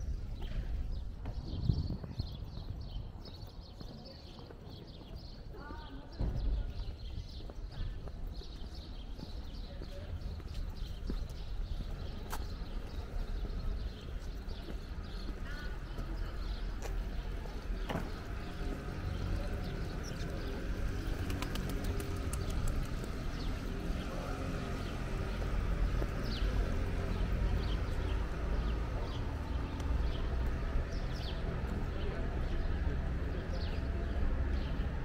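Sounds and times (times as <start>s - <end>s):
birds chirping: 0.0s - 35.0s
low city rumble: 0.0s - 35.0s.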